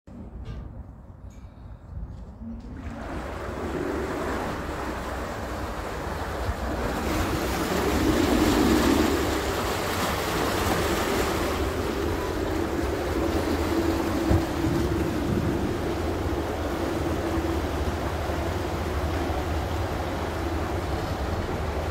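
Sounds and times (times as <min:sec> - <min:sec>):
ferry engine humming: 0:00.1 - 0:21.9
propeller wash churning water: 0:02.6 - 0:21.9.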